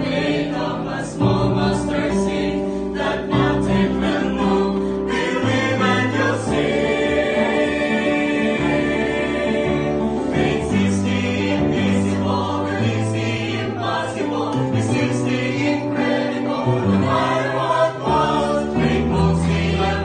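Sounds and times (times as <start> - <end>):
choir singing in harmony: 0.0 - 20.0.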